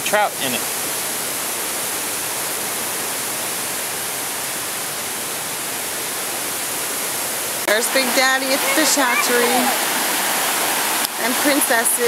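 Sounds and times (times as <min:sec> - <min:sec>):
stream water running over rocks: 0:00.0 - 0:12.0.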